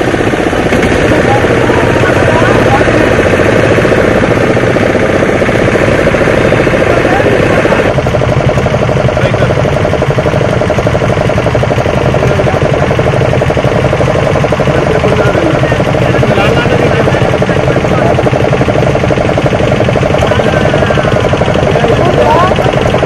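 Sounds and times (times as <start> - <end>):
motor running with fast pulsing: 0.0 - 23.0.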